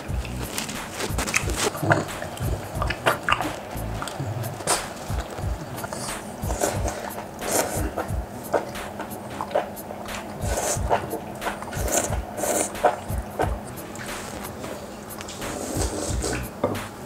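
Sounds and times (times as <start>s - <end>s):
chewing: 0.0s - 16.6s
slurping noodles: 0.0s - 16.6s.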